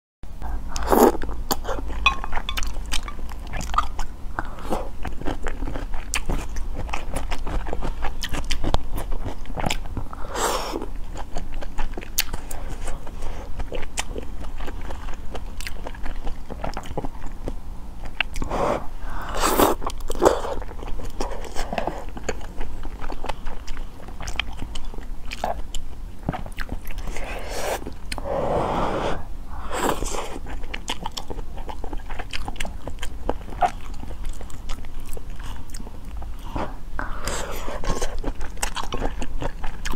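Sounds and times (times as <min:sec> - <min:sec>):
chewing with wet mouth clicks: 0:00.7 - 0:10.1, 0:11.0 - 0:18.5, 0:19.8 - 0:27.2, 0:30.2 - 0:39.9.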